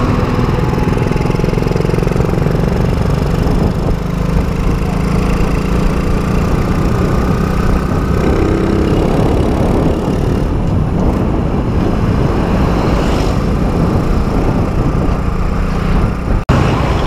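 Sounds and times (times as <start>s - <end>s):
motorcycle engine hum: 0.0s - 17.0s
wind noise on microphone: 0.0s - 17.0s.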